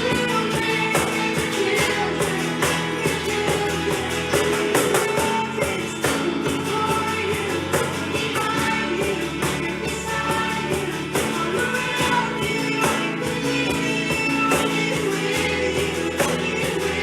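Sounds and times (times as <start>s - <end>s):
band playing worship music: 0.0s - 17.0s
person singing: 0.0s - 17.0s.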